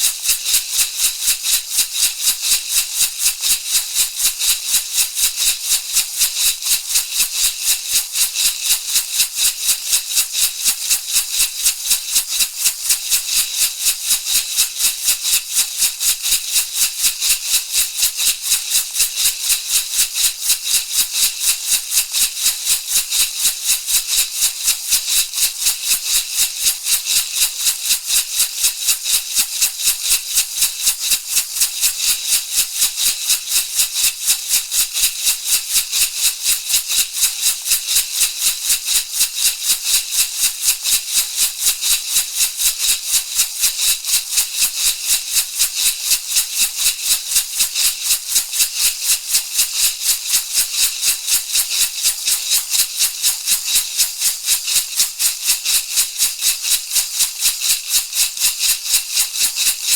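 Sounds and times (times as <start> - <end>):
rattle shaken rhythmically: 0.0 - 59.9.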